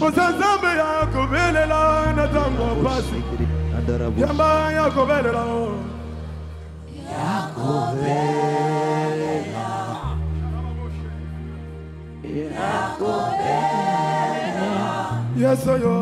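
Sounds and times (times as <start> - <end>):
gospel worship singing: 0.0 - 16.0
sustained low chords: 0.0 - 16.0.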